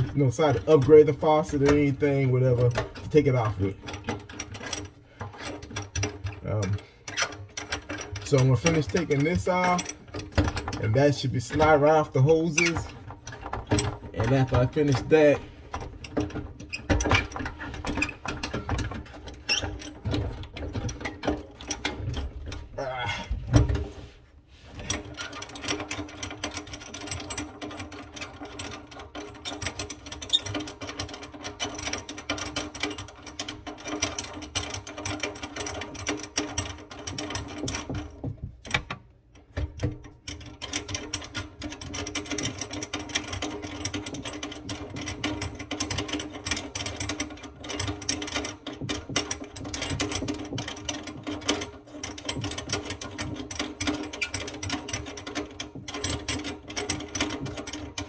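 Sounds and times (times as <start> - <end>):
hand tools clicking and rattling: 0.0 - 23.9, 24.8 - 58.0.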